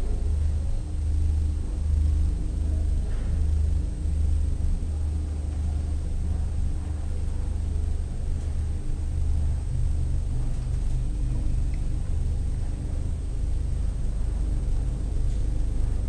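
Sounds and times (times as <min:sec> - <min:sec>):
elevator rumble and hum: 0:00.0 - 0:16.0.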